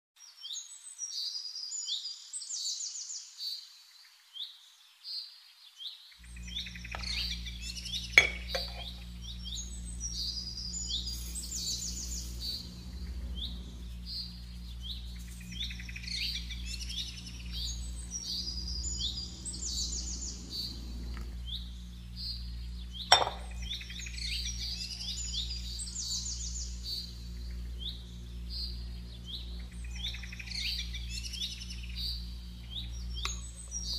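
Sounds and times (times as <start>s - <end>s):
birdsong with fast trill: 0.2s - 33.9s
low steady hum: 6.2s - 33.9s.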